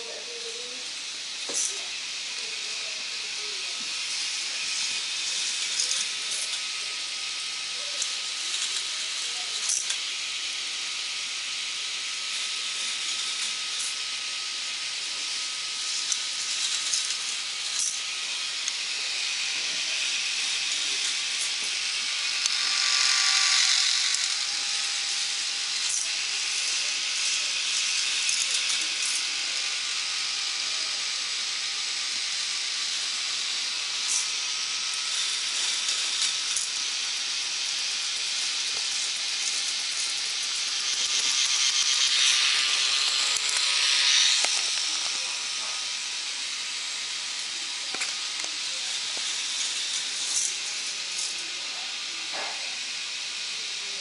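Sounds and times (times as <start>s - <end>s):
small electric motors whirring: 0.0s - 54.0s.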